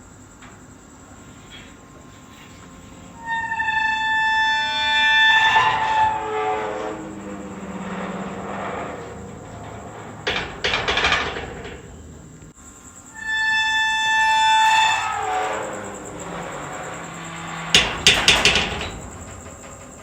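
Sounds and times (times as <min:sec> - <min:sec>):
metal door creaking hinges: 0:00.0 - 0:20.0.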